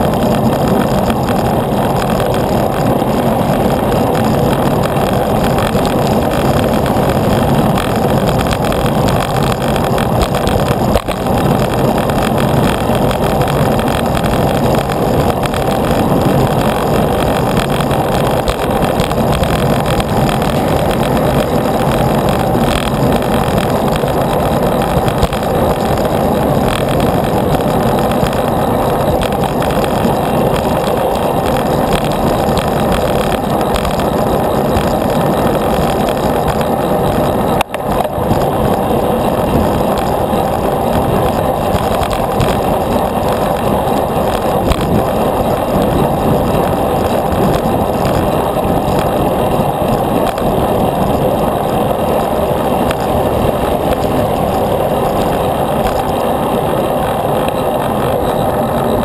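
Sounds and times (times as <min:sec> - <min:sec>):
road noise: 0:00.0 - 0:59.0
wind over microphone: 0:00.0 - 0:59.0.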